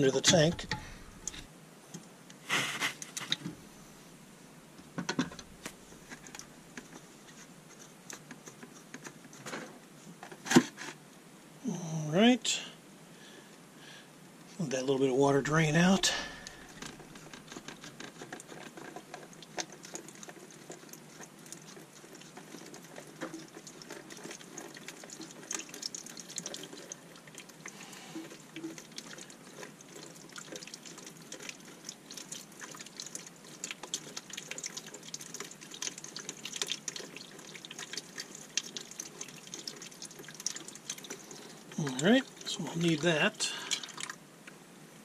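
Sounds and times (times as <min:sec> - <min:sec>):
water dripping into a bucket: 0:00.0 - 0:02.0, 0:04.8 - 0:09.4, 0:14.6 - 0:44.2.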